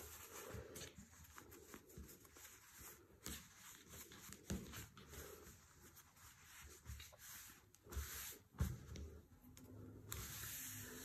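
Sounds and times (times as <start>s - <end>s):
fabric rustling: 0.0s - 11.0s.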